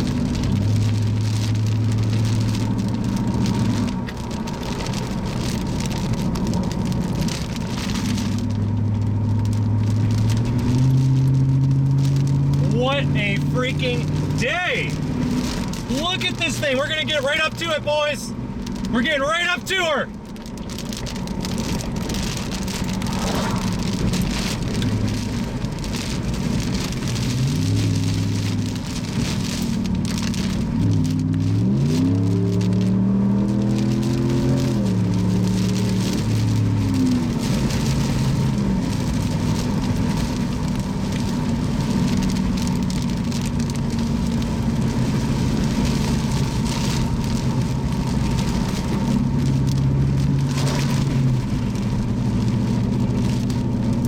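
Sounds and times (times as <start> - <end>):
car engine changing gears: 0.0 - 54.0
rain hitting a car: 0.0 - 54.0.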